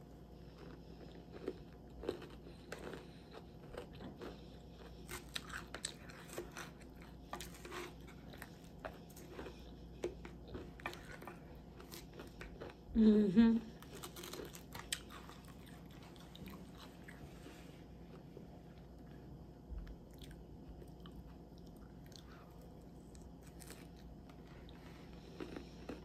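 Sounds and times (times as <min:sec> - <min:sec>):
chewing and crunching salad: 0:00.1 - 0:26.0.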